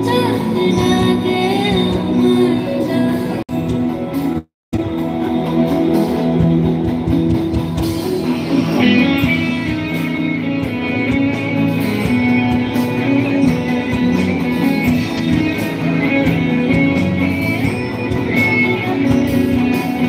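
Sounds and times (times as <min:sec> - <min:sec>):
amplified live band music: 0:00.0 - 0:20.0.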